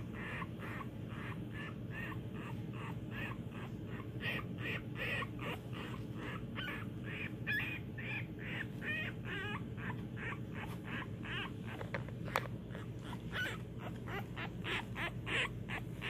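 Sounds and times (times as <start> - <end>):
puppy squeaking and crying: 0.0 - 16.0
steady low hum: 0.0 - 16.0.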